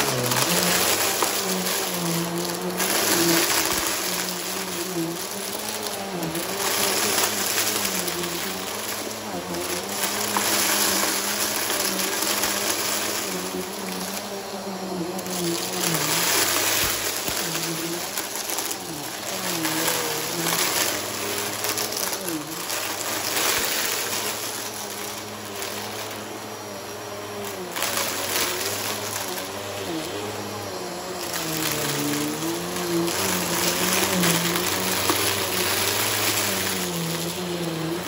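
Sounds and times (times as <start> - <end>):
debris rattling into vacuum: 0.0 - 38.0
upright vacuum running: 0.0 - 38.0.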